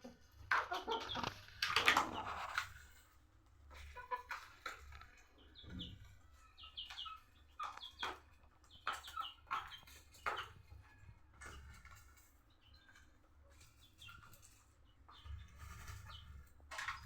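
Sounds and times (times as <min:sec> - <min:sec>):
chickens peeping: 0:00.0 - 0:17.0.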